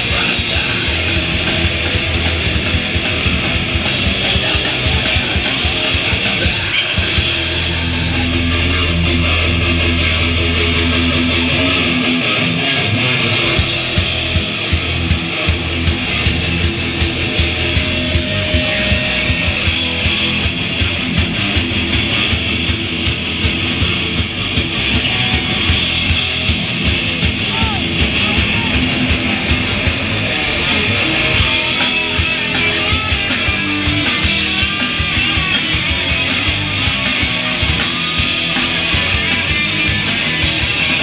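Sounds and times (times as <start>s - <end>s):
drums pounding steady beat: 0.0s - 30.7s, 31.3s - 41.0s
rock band playing live: 0.0s - 41.0s.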